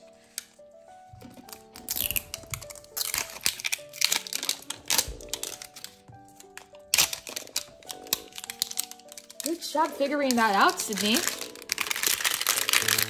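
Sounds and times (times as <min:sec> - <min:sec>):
background music with held notes: 0:00.0 - 0:13.0
plastic packaging crinkling: 0:00.0 - 0:13.0.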